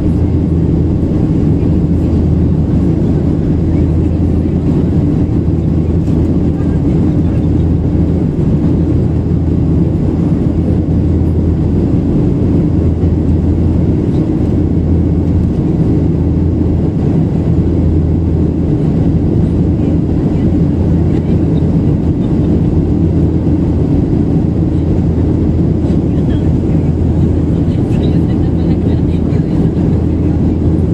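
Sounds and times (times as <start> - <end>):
jet engine cabin drone: 0.0 - 30.9.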